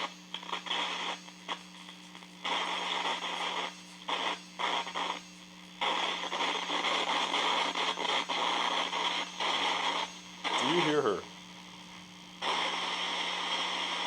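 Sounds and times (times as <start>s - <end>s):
radio static hiss: 0.0s - 14.0s
steady low hum: 0.0s - 14.0s.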